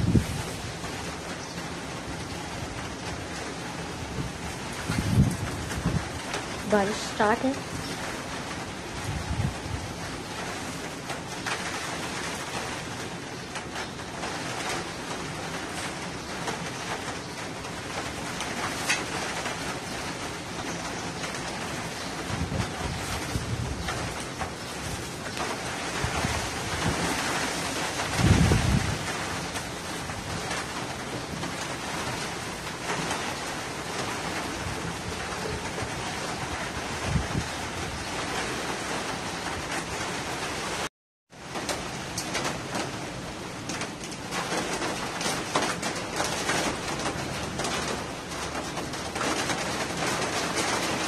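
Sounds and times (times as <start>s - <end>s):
rain falling: 0.0s - 51.0s
wind gusts: 0.0s - 51.0s.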